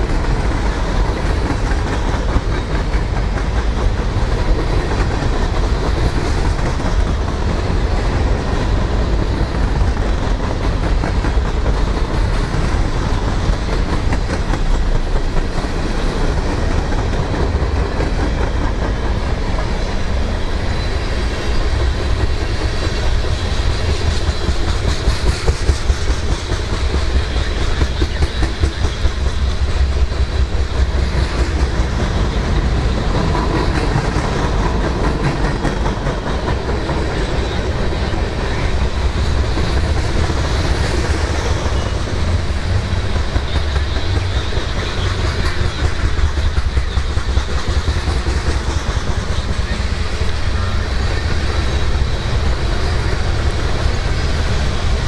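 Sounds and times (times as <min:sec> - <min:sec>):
freight train wheels clickety-clack: 0:00.0 - 0:55.0.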